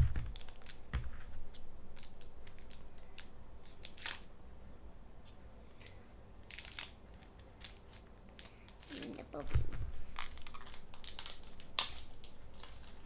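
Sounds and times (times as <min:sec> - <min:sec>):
foil wrapper crinkling: 0:00.0 - 0:04.3, 0:05.8 - 0:13.0.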